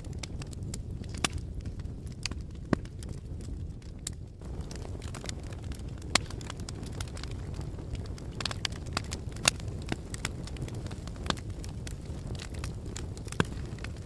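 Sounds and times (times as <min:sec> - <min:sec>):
fire crackling and popping: 0:00.0 - 0:14.0
low fire rumble: 0:00.0 - 0:14.0.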